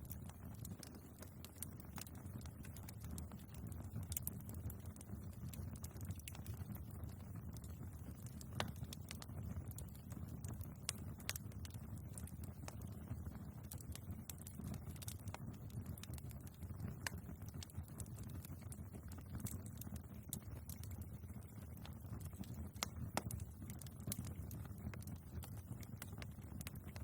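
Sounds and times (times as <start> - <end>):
fire flames rumbling: 0.0 - 27.0
logs crackling and popping: 0.0 - 27.0.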